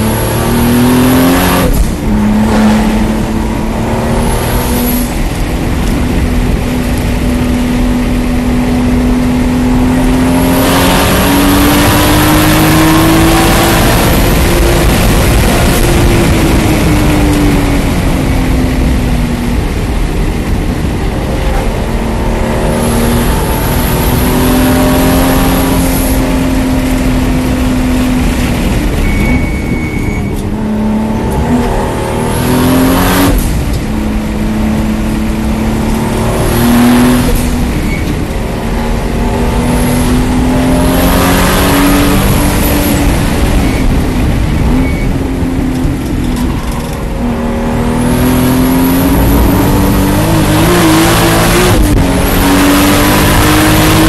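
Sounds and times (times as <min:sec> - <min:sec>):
car engine at racing speed: 0:00.0 - 0:54.0.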